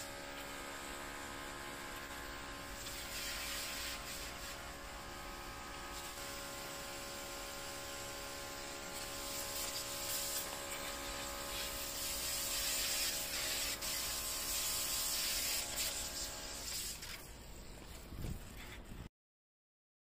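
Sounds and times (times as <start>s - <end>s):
high-pressure water jet hissing: 0.0s - 17.6s
pressure washer motor humming: 0.0s - 18.1s.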